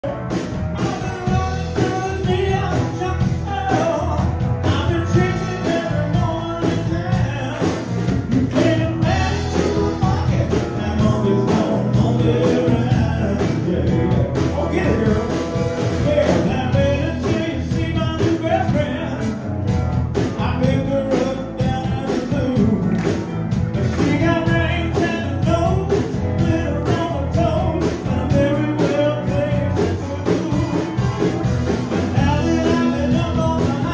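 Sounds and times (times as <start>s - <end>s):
person singing: 0.0s - 19.4s, 20.2s - 33.9s
band playing rock and roll: 0.0s - 33.9s.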